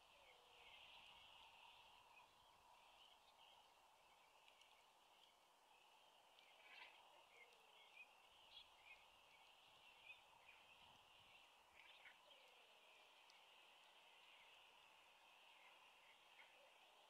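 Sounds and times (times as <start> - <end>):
high-pitched background hiss: 0.0 - 17.0
small birds chirping: 0.0 - 17.0.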